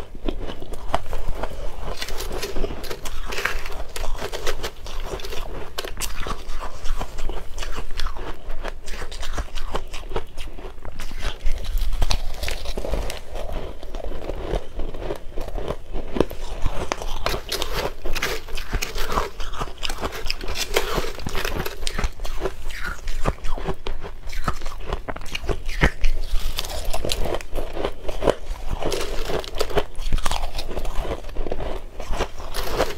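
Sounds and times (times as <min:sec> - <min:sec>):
crushed ice crunching: 0:00.5 - 0:08.3, 0:10.6 - 0:23.6, 0:24.4 - 0:32.9.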